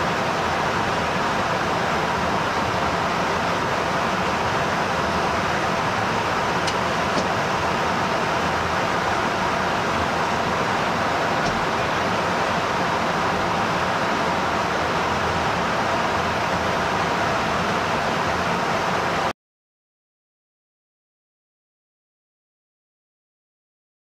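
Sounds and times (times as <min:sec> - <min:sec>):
aircraft engines and airflow rushing: 0:00.0 - 0:19.3.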